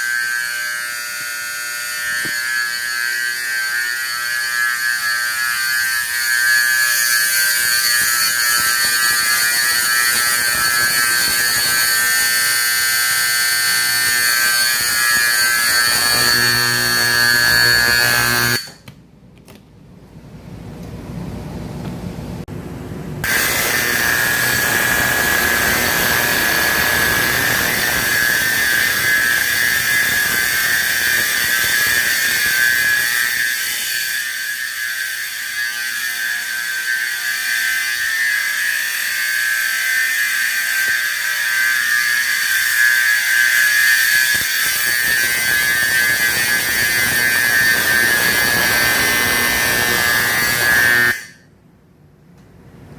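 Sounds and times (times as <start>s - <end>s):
fire alarm horn buzzing: 0.0s - 18.8s, 23.2s - 51.5s.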